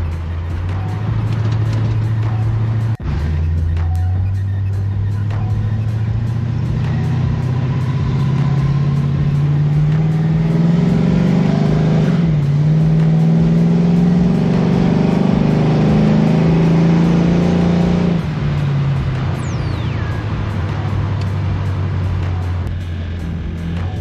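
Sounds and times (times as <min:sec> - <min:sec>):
car engine pulling: 0:00.0 - 0:24.0.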